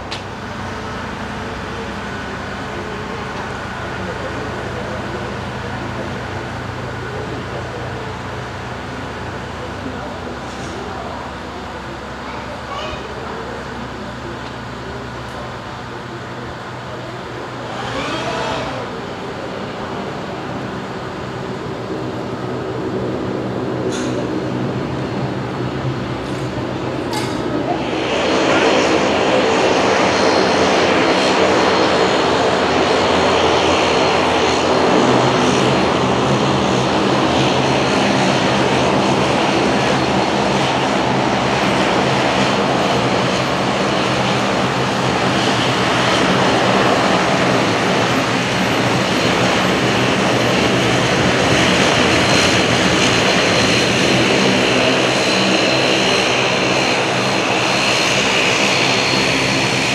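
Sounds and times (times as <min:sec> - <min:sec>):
high engine whine: 0:00.0 - 0:59.9
turboprop plane engines droning: 0:00.0 - 0:59.9.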